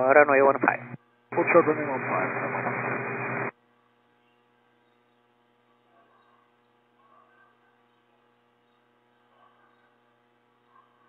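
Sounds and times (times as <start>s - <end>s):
faint electrical hum on radio: 0.0s - 11.0s.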